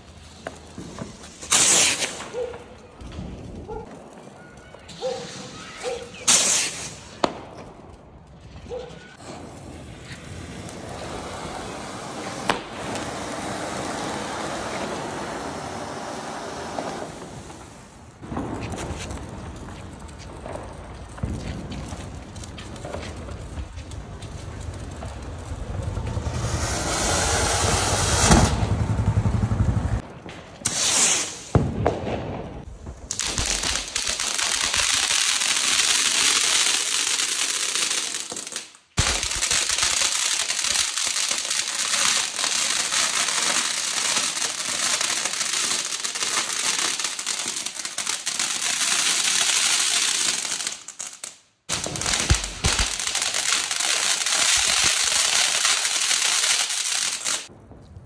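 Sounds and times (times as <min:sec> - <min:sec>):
sharp firework cracks: 0:00.0 - 0:28.8, 0:30.0 - 0:58.0
fireworks hissing and crackling: 0:00.0 - 0:29.0, 0:29.9 - 0:58.0.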